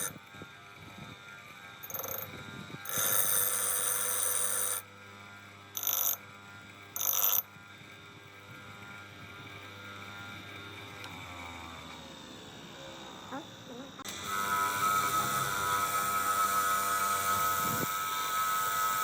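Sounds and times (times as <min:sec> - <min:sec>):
bench grinder motor humming: 0:00.0 - 0:19.0.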